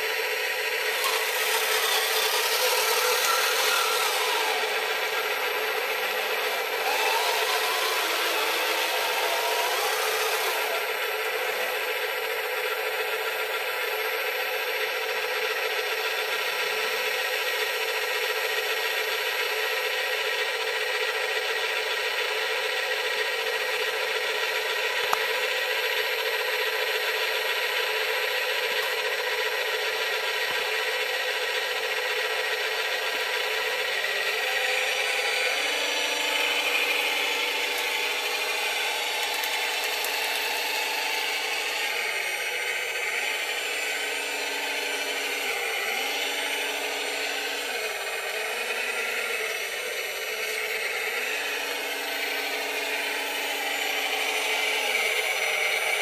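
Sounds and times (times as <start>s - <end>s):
electric motors whining: 0.0s - 56.0s.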